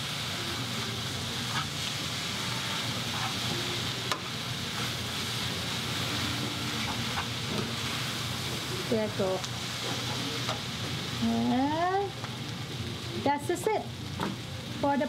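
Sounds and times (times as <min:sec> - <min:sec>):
noodles sizzling in a pan: 0:00.0 - 0:15.0.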